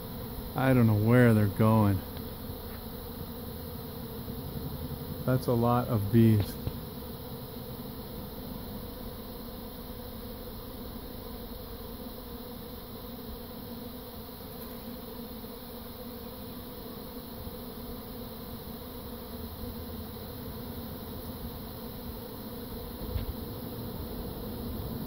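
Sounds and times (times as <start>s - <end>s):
swarm of bees buzzing: 0.0s - 25.0s.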